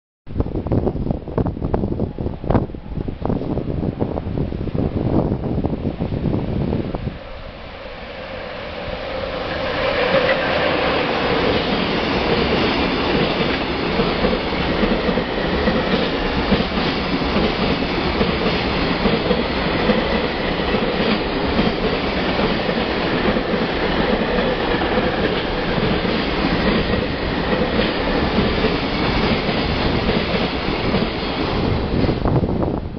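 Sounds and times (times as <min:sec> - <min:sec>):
train wheels rumbling on rails: 0:00.6 - 0:32.9.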